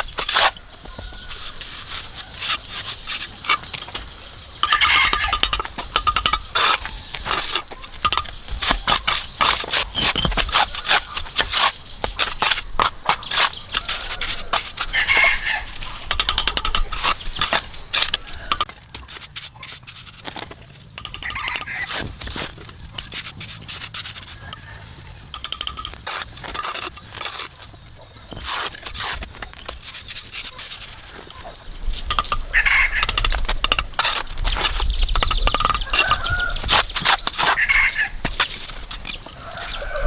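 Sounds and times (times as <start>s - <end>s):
scraping and rubbing: 0.0s - 40.0s.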